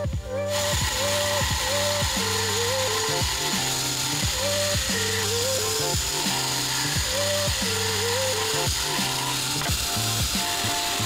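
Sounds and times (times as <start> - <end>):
looping background music: 0.0 - 11.0
bandsaw cutting wood: 0.5 - 11.0.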